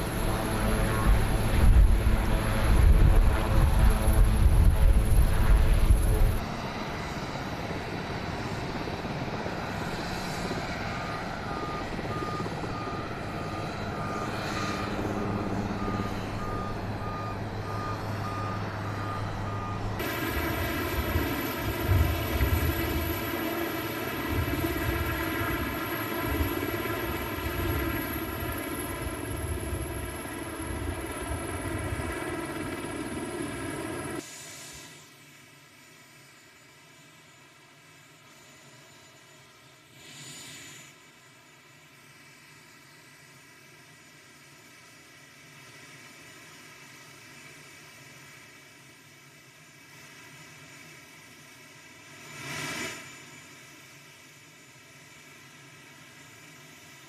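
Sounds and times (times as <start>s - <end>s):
helicopter turbines and rotors: 0.0s - 57.0s.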